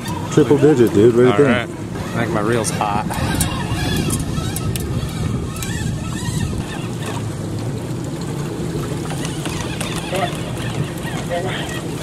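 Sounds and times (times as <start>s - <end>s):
boat engine rumbling: 0.0s - 12.0s
water noise: 0.0s - 12.0s
wind on microphone: 0.0s - 12.0s.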